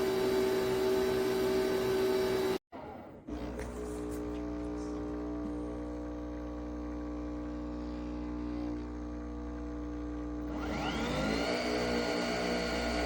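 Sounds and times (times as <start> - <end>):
coffee machine humming: 0.0 - 2.6, 3.3 - 13.0.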